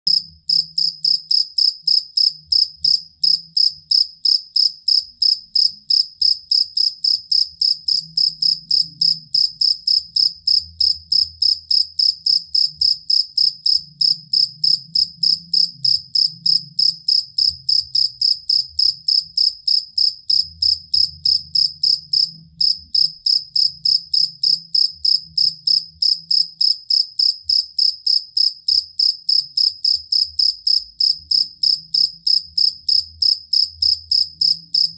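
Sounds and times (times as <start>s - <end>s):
field cricket chirping: 0.1s - 34.9s.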